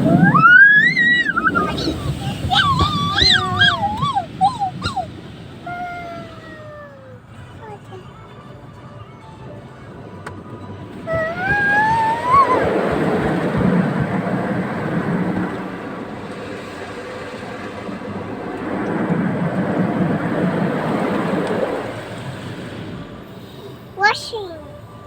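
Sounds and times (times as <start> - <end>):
car wash water rushing: 0.0 - 7.2, 9.9 - 24.2.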